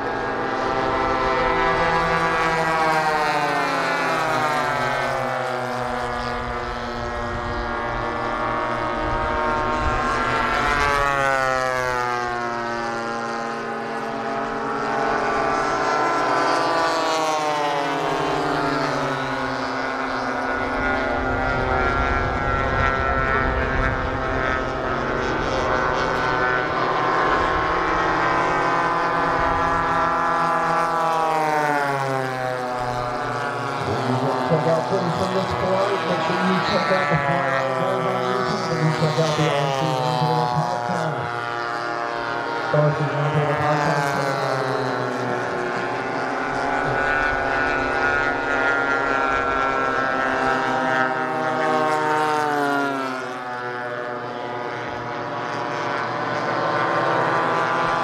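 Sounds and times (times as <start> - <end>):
model plane propeller engines passing: 0.0 - 58.0.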